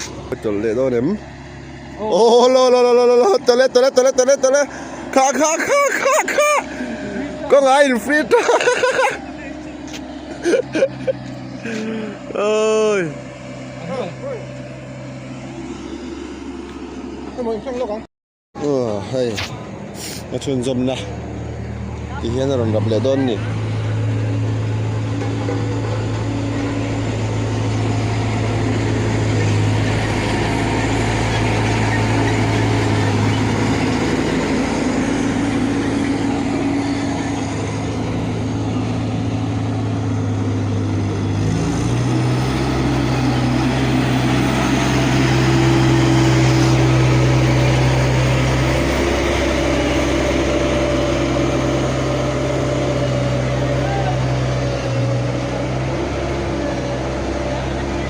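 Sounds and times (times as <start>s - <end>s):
road roller engine running: 0.0s - 58.0s.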